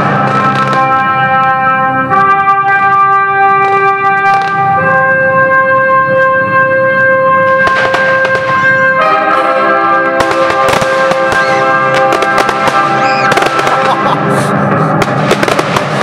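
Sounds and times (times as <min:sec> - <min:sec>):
fireworks banging and crackling: 0:00.0 - 0:06.1, 0:07.4 - 0:16.0
orchestral music with brass chords: 0:00.0 - 0:16.0.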